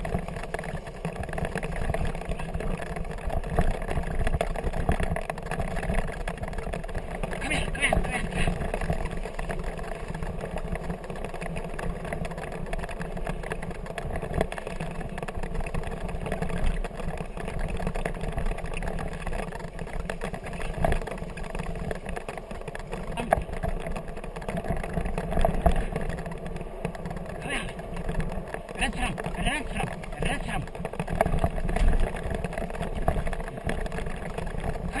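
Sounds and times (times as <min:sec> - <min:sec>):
wheels rumbling over grass: 0:00.0 - 0:35.0.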